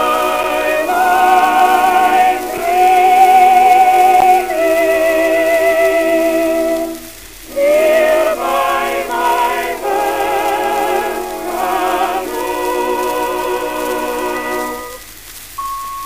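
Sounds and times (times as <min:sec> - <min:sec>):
old record of voices and orchestra: 0:00.0 - 0:15.6
record surface hiss: 0:00.0 - 0:16.0.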